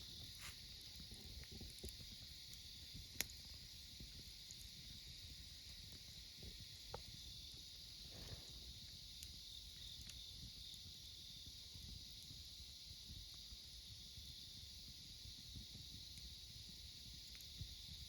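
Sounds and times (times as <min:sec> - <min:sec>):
campfire crackling: 0:00.0 - 0:18.0
insects chirping: 0:00.0 - 0:18.0.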